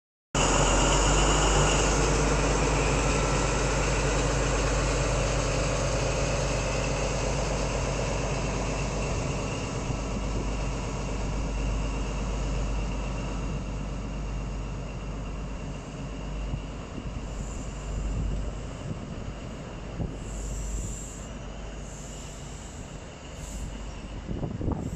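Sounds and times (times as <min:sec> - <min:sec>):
diesel engine with high whine: 0:00.4 - 0:24.9
train coaches rolling on rails: 0:00.4 - 0:24.9.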